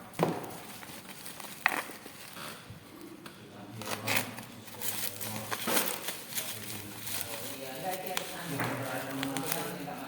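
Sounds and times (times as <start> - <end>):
packaging rustling and scraping: 0.1 - 3.1, 3.8 - 10.0.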